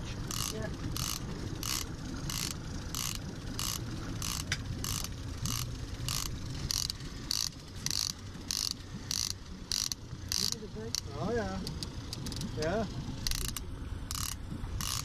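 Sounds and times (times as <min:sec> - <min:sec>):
outboard motor rumble: 0:00.0 - 0:15.0
fishing reel ratchet clicking: 0:00.3 - 0:12.6, 0:13.2 - 0:15.0.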